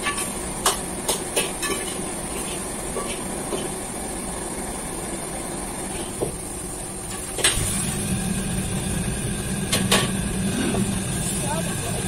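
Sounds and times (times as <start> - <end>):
gas burner and extractor roar: 0.0 - 12.0.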